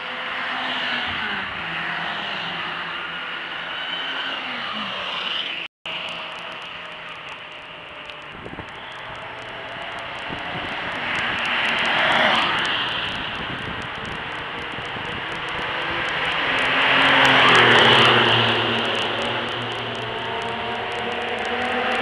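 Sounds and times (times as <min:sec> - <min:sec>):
sports cars passing on wet track: 0:00.0 - 0:22.0.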